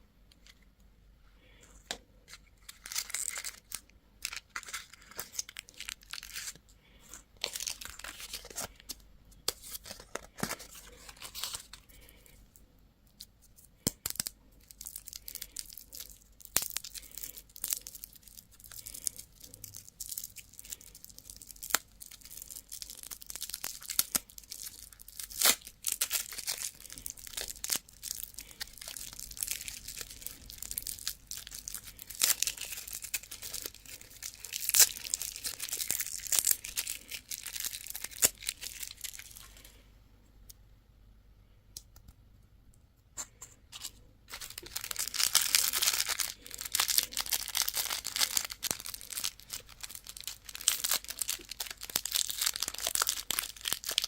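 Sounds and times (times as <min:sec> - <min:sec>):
plastic candy wrappers crinkling: 0:01.7 - 0:12.4, 0:13.1 - 0:39.8, 0:43.7 - 0:54.0.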